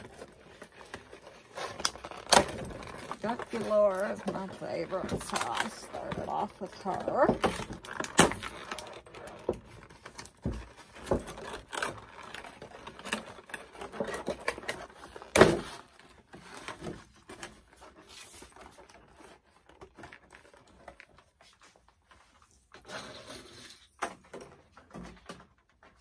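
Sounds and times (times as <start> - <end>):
plastic packaging crinkling: 0.0 - 22.7.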